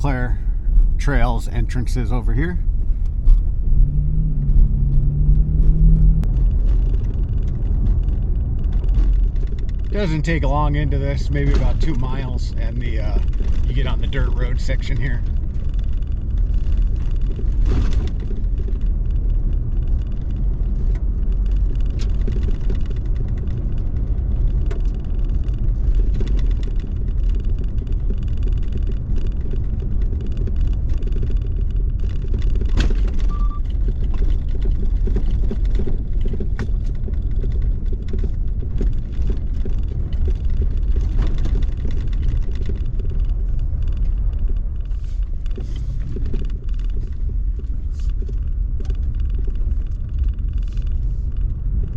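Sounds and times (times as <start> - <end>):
low rumble of tyres and engine: 0.0 - 51.9.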